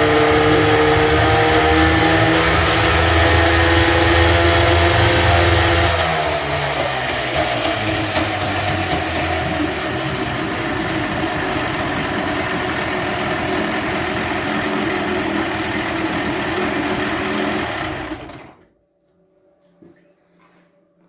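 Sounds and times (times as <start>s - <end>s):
outboard engine running: 0.0s - 18.6s.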